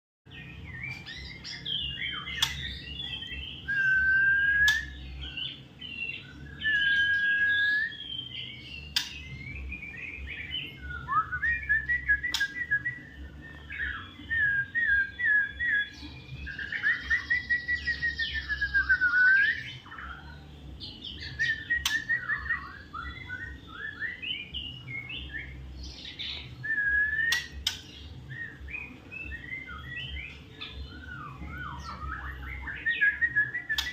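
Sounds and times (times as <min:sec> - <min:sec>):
bird singing varied song: 0:00.3 - 0:33.9.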